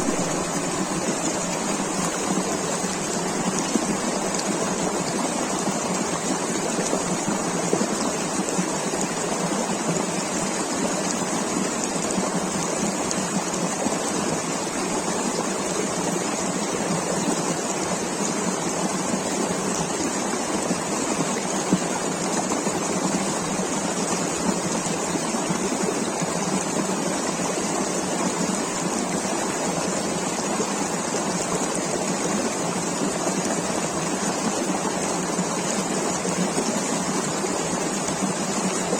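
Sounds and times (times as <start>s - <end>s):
river water rushing and babbling: 0.0s - 38.9s.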